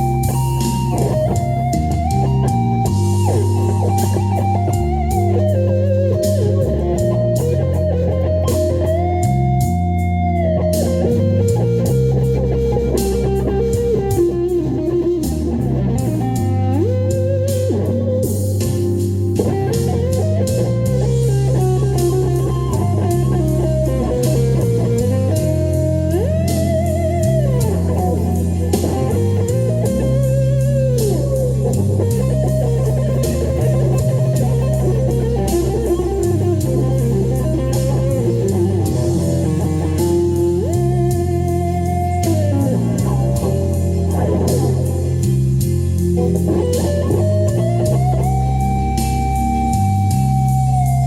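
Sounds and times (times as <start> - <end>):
blues-rock backing track: 0.0 - 51.0
electric guitar lead: 0.0 - 51.0.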